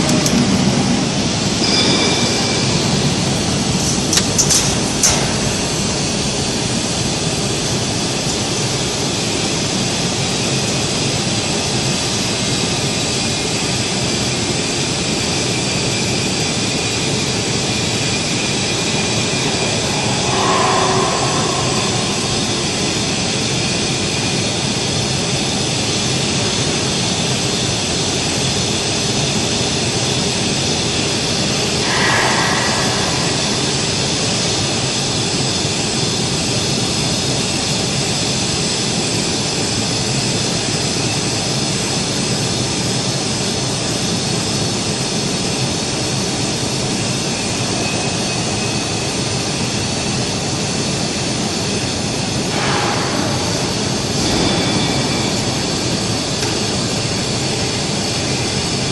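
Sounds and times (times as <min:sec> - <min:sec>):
loud machinery noise: 0:00.0 - 0:58.9.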